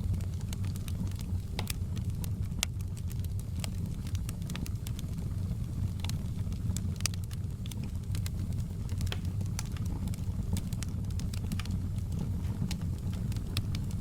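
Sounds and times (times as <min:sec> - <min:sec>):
fire crackling pops: 0:00.0 - 0:14.0
low rumble of flames: 0:00.0 - 0:14.0.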